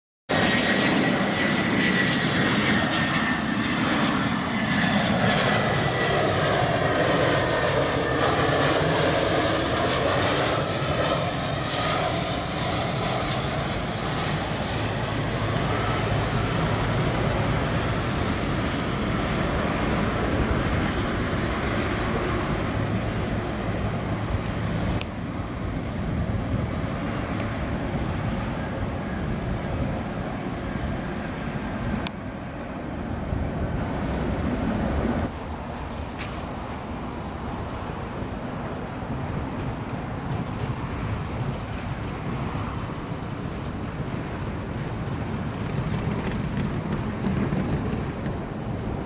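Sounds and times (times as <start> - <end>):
jet airliner engines roaring: 0.3 - 49.0.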